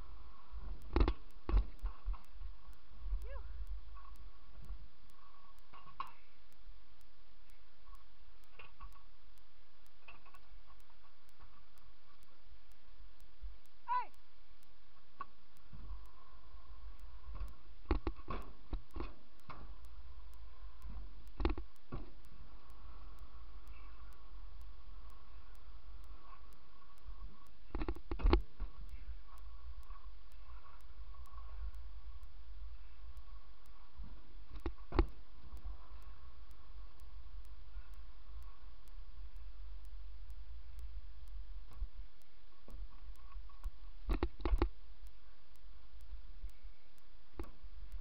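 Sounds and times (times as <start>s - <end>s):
faint ticking: 0.0s - 48.0s.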